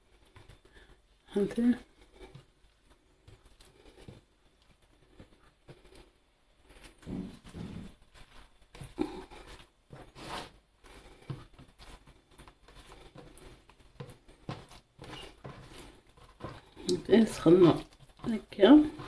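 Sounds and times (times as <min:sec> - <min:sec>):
pastry rustling: 0:00.0 - 0:19.0.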